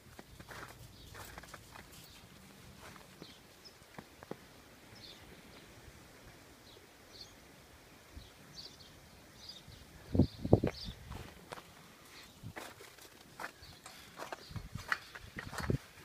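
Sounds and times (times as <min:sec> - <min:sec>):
small birds chirping: 0:00.2 - 0:05.8, 0:06.6 - 0:16.0.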